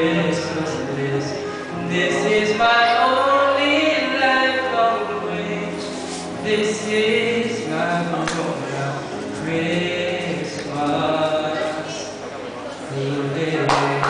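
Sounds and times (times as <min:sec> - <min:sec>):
man singing into microphone: 0:00.0 - 0:14.0.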